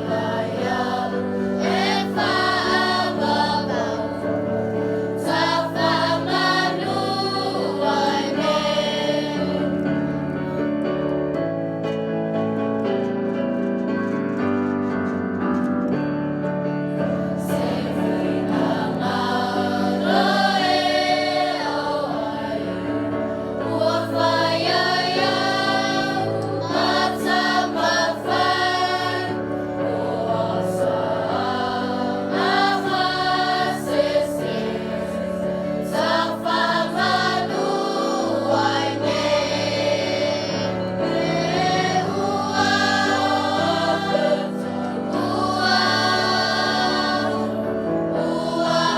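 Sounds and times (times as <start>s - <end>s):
choir singing a hymn: 0.0s - 13.3s, 16.6s - 48.9s.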